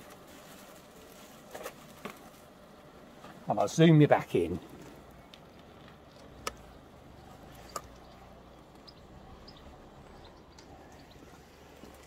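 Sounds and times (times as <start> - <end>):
low steady background: 0.0 - 12.0.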